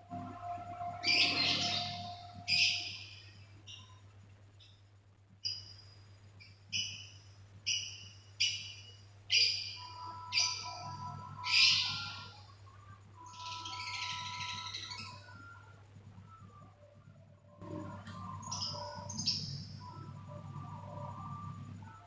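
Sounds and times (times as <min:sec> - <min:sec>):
faint steady hum: 0:00.0 - 0:22.0
bird chirping: 0:00.1 - 0:04.0, 0:05.4 - 0:16.8, 0:17.6 - 0:22.0.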